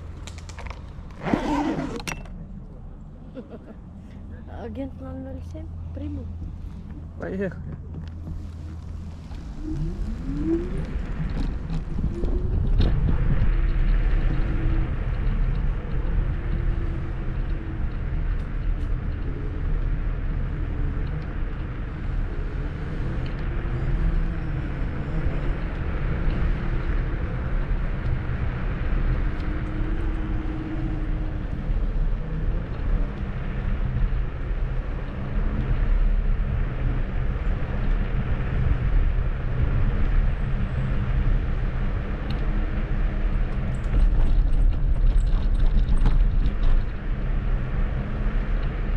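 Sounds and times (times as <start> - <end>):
tyres rolling on path: 0.0 - 2.4, 6.2 - 48.9
faint wavering motor hum: 0.0 - 48.9
wind on microphone: 6.2 - 48.9.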